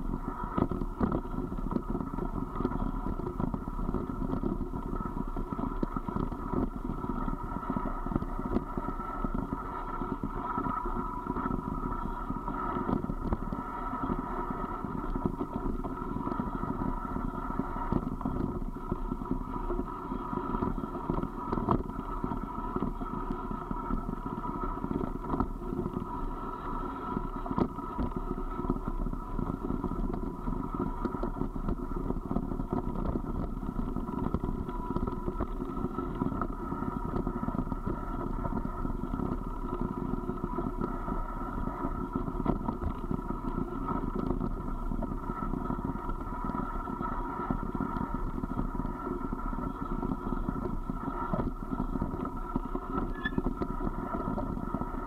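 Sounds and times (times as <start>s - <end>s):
wheels rolling over gravel: 0.0s - 55.0s.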